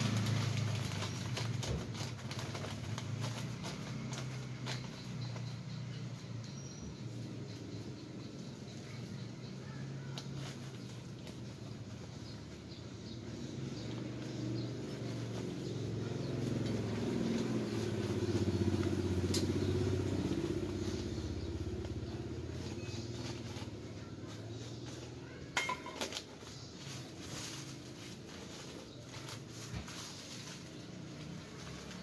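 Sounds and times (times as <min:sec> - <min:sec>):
vehicle engine passing: 0:00.0 - 0:08.0, 0:11.9 - 0:25.1, 0:26.8 - 0:32.0.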